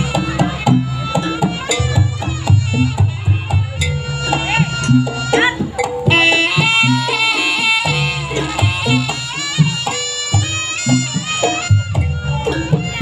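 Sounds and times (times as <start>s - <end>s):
repeated drum strokes: 0.0s - 13.0s
shawm playing a bending melody: 0.0s - 13.0s.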